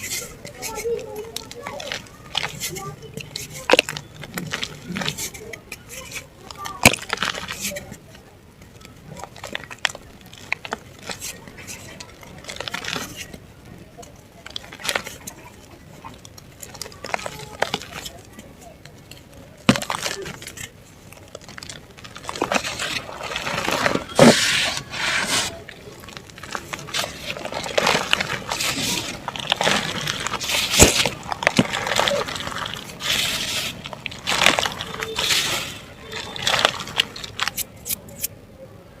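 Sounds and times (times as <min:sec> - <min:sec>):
dry mud crumbling and crunching: 0:00.0 - 0:38.3.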